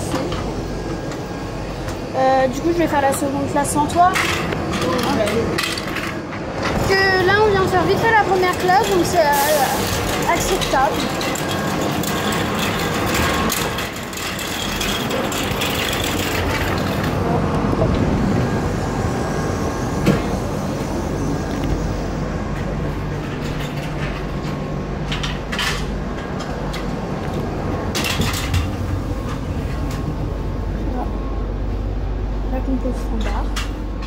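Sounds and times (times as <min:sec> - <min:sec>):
electric train equipment hum: 0:00.0 - 0:34.0.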